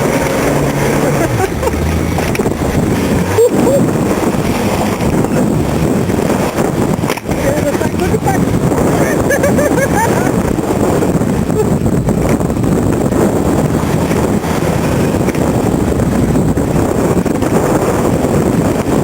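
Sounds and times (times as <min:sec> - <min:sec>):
off-road vehicle engine under load: 0:00.0 - 0:19.0
wind buffeting microphone: 0:00.0 - 0:19.0.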